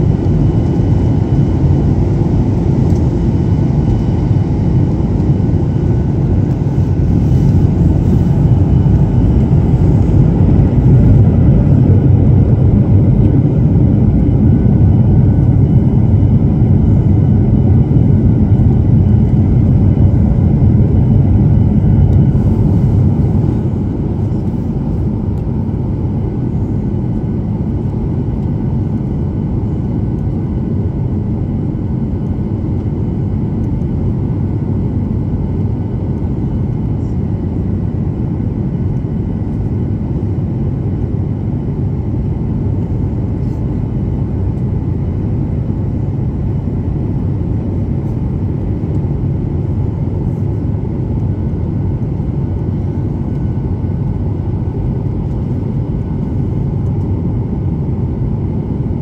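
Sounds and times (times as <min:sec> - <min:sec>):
airliner engines rumbling: 0:00.0 - 0:59.0.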